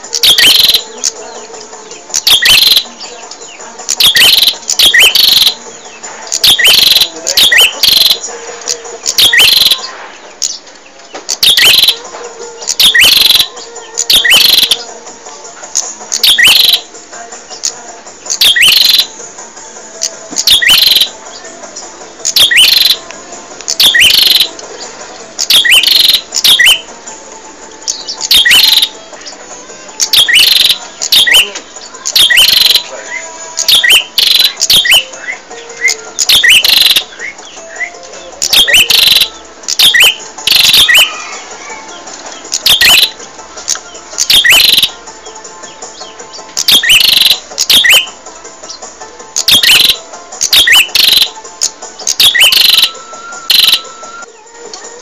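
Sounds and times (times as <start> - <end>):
bird chirping: 0.0 - 15.0, 15.8 - 16.9, 17.5 - 19.2, 20.0 - 23.1, 23.7 - 26.9, 27.8 - 29.4, 30.0 - 54.4.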